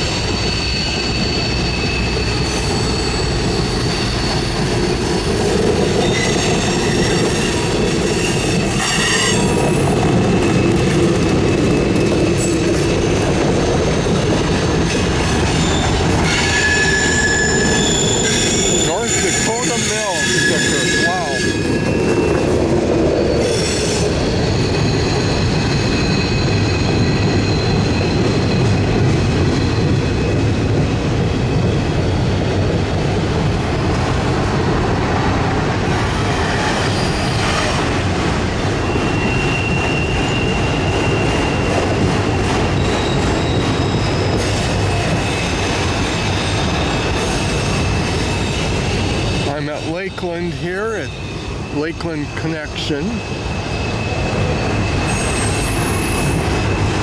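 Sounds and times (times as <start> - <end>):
train wheels rumbling on rails: 0.0 - 57.0
wheels squealing against rails: 0.0 - 57.0.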